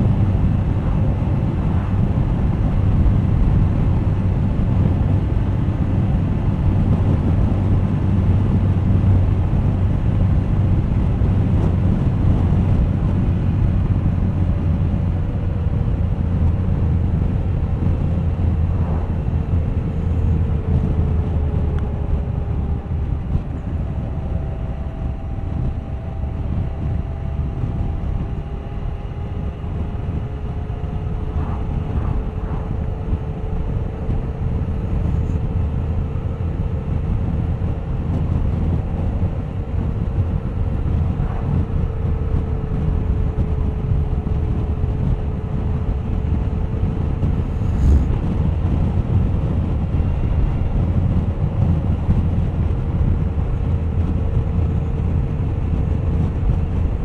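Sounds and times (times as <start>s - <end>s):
wind over microphone: 0.0s - 57.0s.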